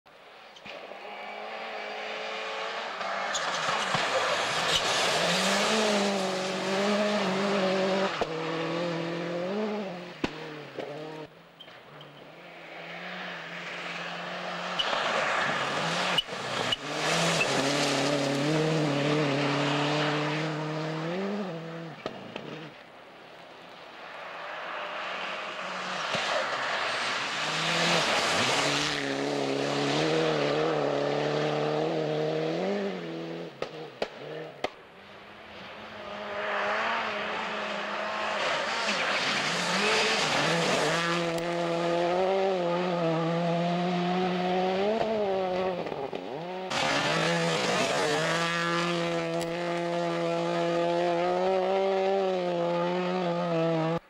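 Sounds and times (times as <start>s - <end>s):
tyres rushing on snow: 0.6s - 11.3s, 12.5s - 31.7s, 35.0s - 51.7s
rally car engine revving: 0.8s - 11.4s, 12.0s - 22.8s, 24.7s - 54.0s.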